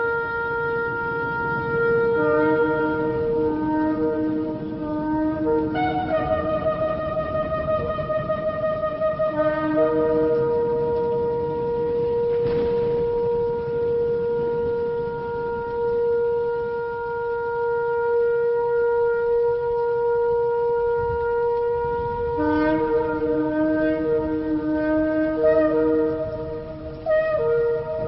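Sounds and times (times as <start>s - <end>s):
lower-pitched shofar note: 0.0s - 28.0s
shofar long note: 0.0s - 28.0s.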